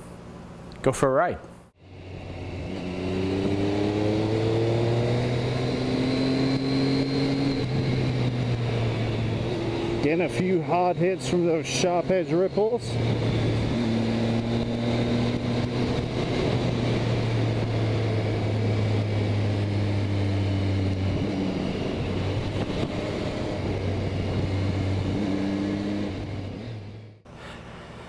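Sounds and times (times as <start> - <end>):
motorcycle engine drone: 1.8 - 27.4
wind rushing on microphone: 2.2 - 26.7.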